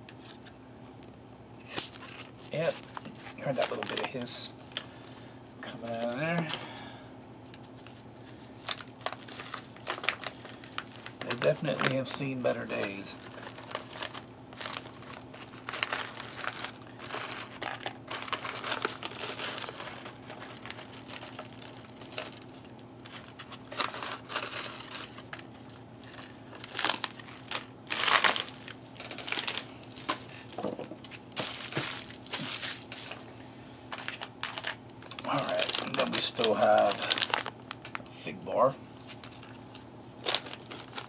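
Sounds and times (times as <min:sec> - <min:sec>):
foil packet crinkling: 0:01.6 - 0:33.3, 0:33.9 - 0:41.0.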